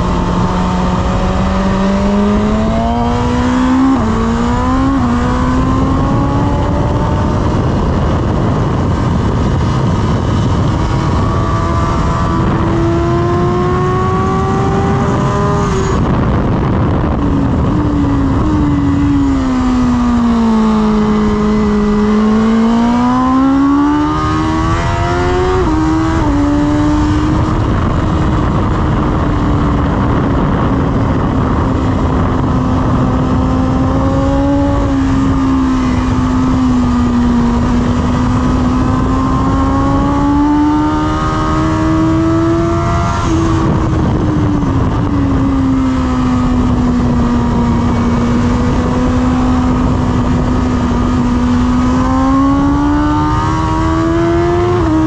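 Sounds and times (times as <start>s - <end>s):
motorcycle engine pulling hard: 0.0s - 55.0s
wind noise: 0.0s - 55.0s.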